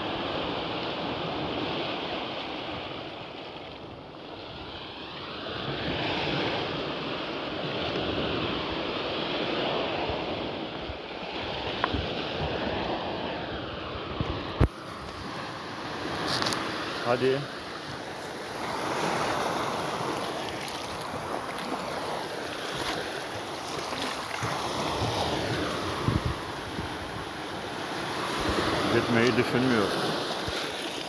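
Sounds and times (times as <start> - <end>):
sea waves washing: 0.0 - 31.0
wind on microphone: 4.5 - 16.9, 17.9 - 31.0.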